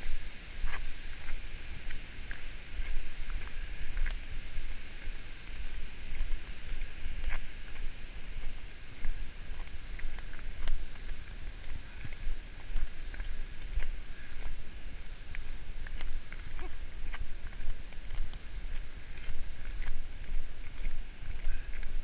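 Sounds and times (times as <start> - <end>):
footsteps on icy snow: 0.0 - 22.0
wind buffeting microphone: 0.0 - 22.0.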